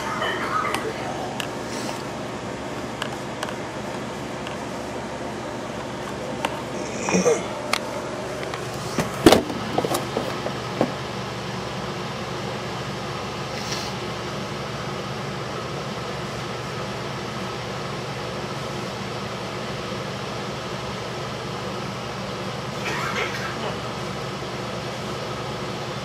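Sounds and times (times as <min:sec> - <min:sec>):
range hood fan humming: 0:00.0 - 0:26.0.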